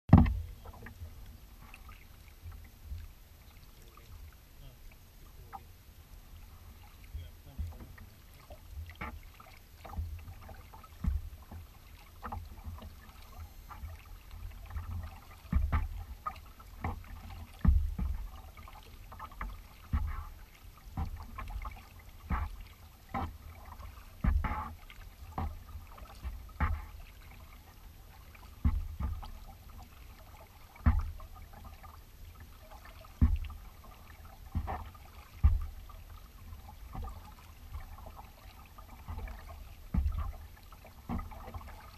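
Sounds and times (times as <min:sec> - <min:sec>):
paddle strokes in water: 0:00.1 - 0:41.9.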